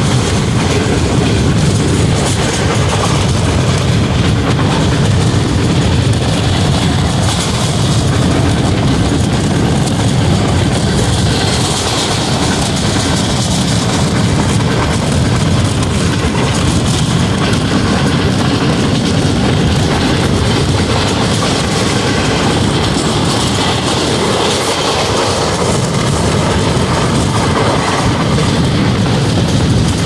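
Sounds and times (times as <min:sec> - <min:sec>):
rumble of train wheels on track: 0:00.0 - 0:30.0.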